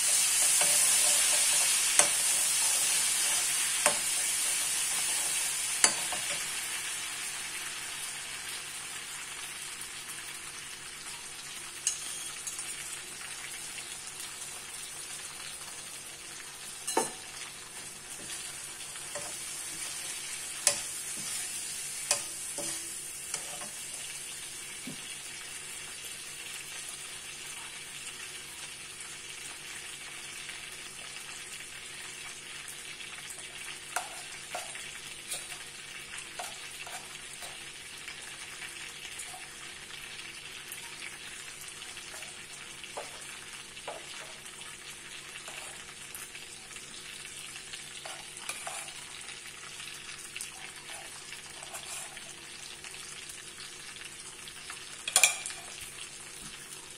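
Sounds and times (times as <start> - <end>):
fish sizzling in oil: 0.0 - 56.9.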